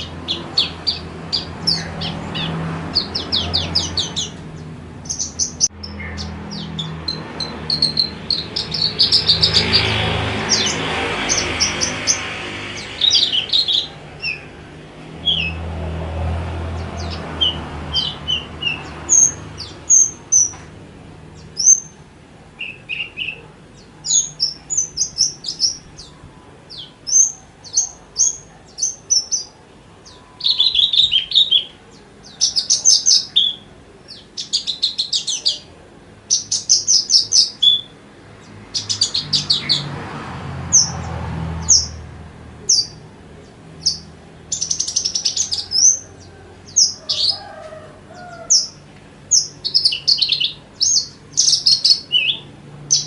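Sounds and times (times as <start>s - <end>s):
bird singing chirps and trills: 0.0s - 40.0s, 40.7s - 53.0s.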